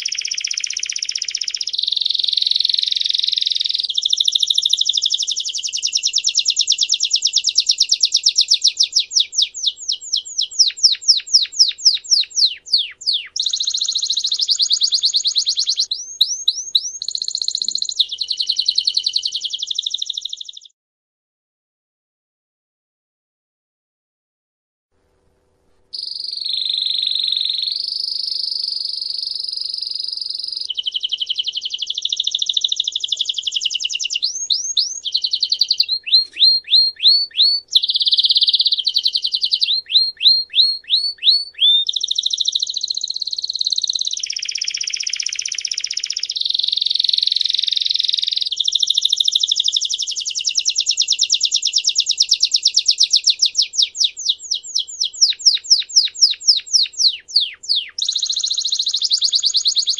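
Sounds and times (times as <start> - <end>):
canary singing trills: 0.0 - 20.7, 26.0 - 59.9.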